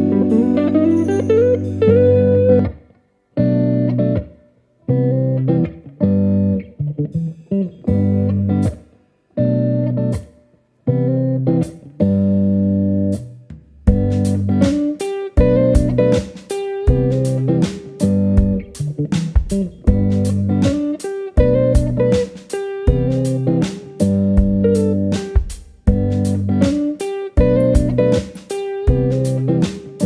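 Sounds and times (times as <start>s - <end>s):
plucked guitar chords: 0.0s - 30.0s.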